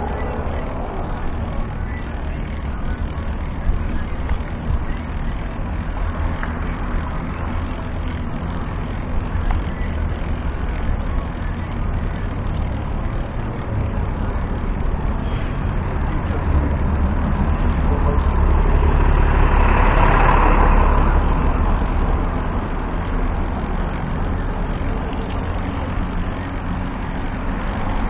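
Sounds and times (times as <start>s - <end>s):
vehicle road noise rumble: 0.0s - 28.0s.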